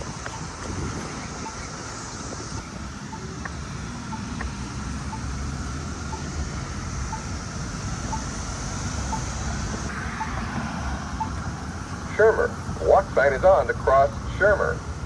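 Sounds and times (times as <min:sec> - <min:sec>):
traffic noise: 0:00.0 - 0:15.0
crosswalk button beeps: 0:01.0 - 0:02.0, 0:02.6 - 0:04.5, 0:05.1 - 0:14.9.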